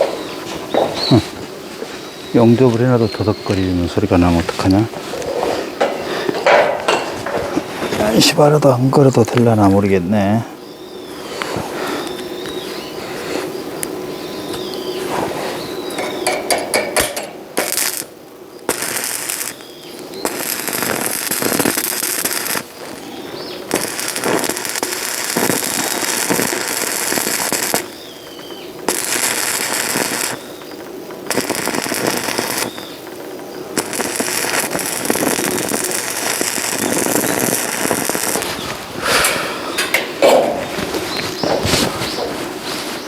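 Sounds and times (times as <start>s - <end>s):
welding arc crackling and sizzling: 0.0s - 43.0s.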